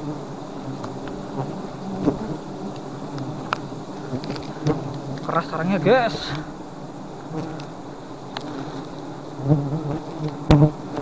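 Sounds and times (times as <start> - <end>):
swarm of bees buzzing: 0.0 - 11.0.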